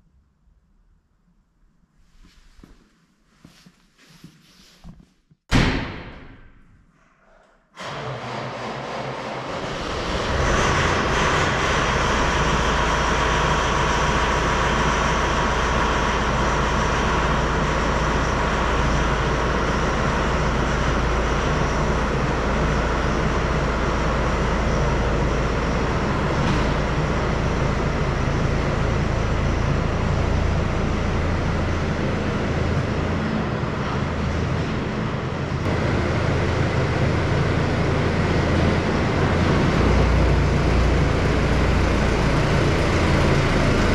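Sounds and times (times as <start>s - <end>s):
tractor diesel engine rumbling: 7.8s - 43.9s.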